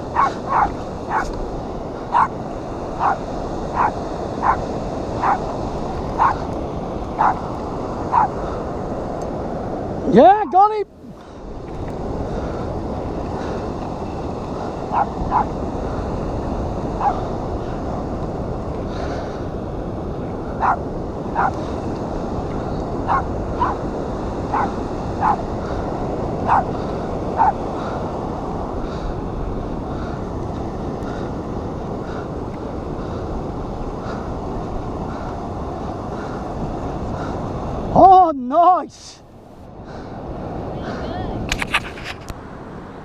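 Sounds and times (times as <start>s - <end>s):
surf: 0.0s - 43.0s
wind: 0.0s - 43.0s.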